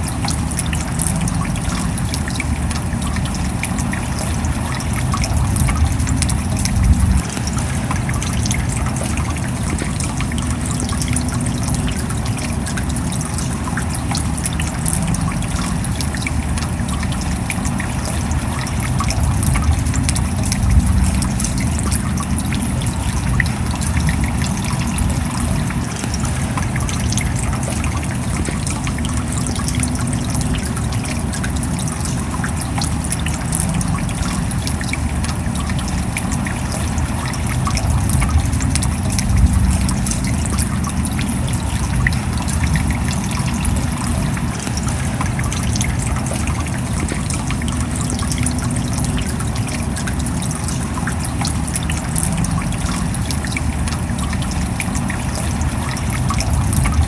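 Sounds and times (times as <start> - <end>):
steady rain falling: 0.0 - 57.0
low rumble: 1.0 - 13.0, 14.7 - 31.0, 33.3 - 49.0, 51.9 - 57.0.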